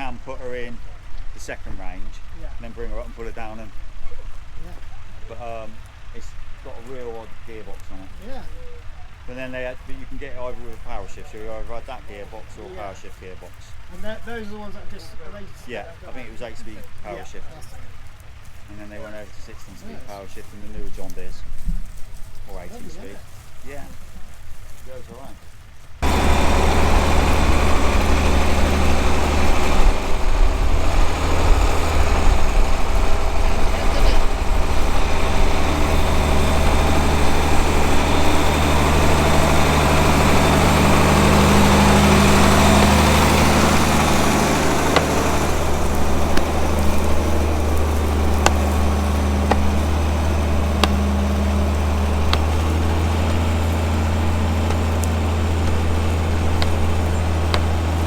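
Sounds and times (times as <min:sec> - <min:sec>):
tractor diesel engine running: 0:00.0 - 0:21.3, 0:21.9 - 0:58.0.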